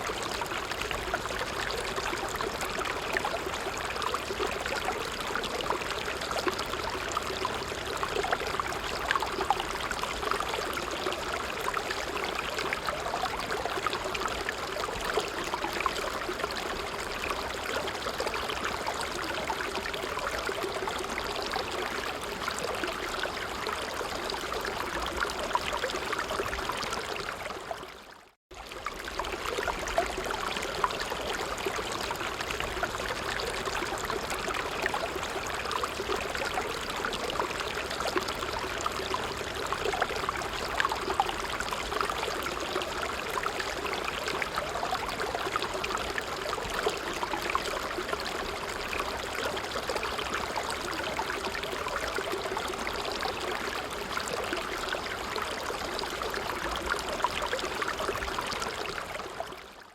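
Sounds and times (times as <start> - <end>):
stream rushing and trickling: 0.0 - 59.9.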